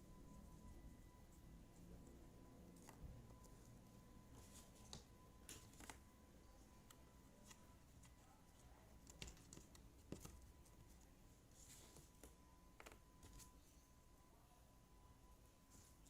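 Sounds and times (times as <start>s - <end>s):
faint steady tone: 0.0s - 16.0s.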